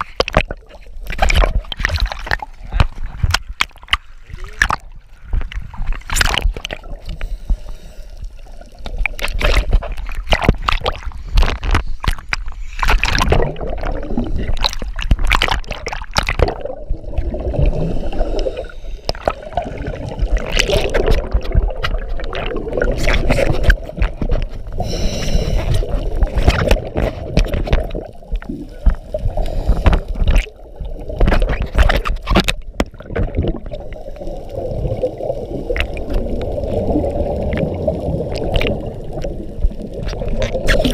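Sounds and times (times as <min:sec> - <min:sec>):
regulator bubbles gurgling underwater: 0:00.0 - 0:40.9.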